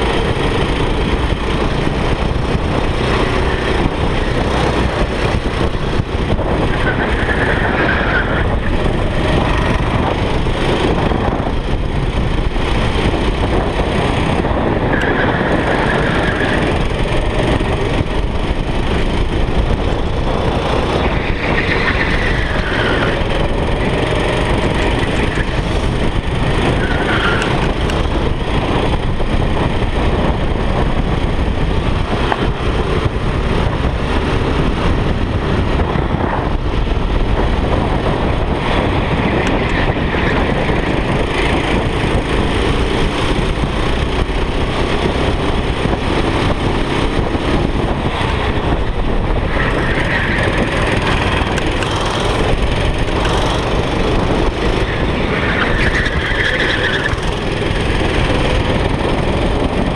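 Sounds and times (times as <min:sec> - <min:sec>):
kart engine running hard: 0:00.0 - 0:59.9
wind noise on microphone: 0:00.0 - 0:59.9.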